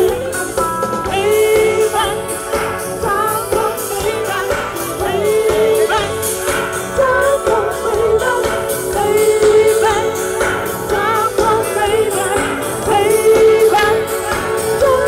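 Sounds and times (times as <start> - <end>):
live band playing: 0.0 - 15.0
person singing: 0.0 - 15.0.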